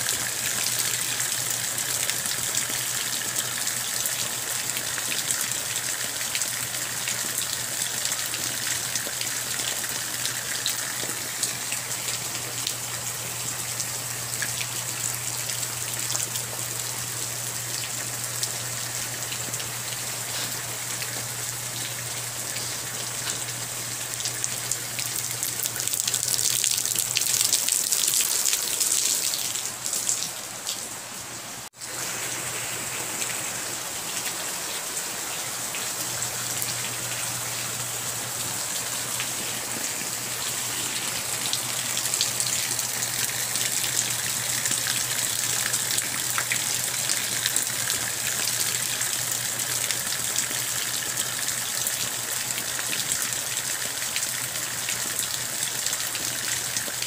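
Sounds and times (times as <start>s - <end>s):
rain pattering on ground: 0.0s - 57.0s.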